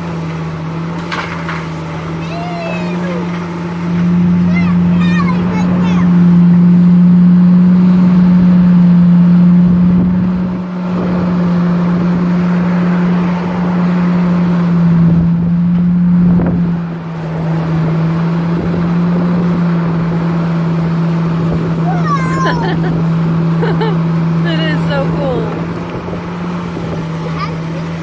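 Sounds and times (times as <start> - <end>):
excavator diesel engine humming: 0.0 - 28.0.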